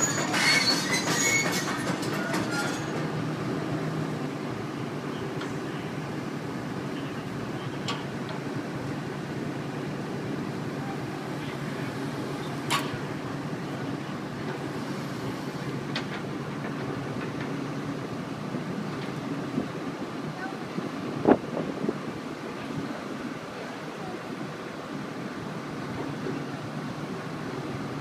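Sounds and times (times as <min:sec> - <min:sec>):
excavator engine droning: 0:00.0 - 0:28.0.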